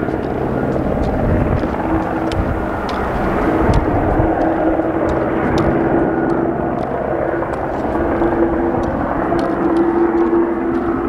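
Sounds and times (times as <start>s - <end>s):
steady droning hum: 0.0s - 11.0s
volcano rumbling roar: 0.0s - 11.0s.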